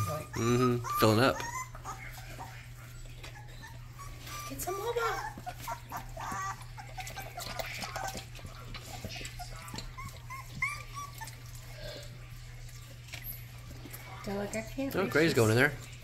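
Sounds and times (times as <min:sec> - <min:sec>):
puppies lapping water: 0:00.0 - 0:16.0
puppies whimpering: 0:00.0 - 0:16.0.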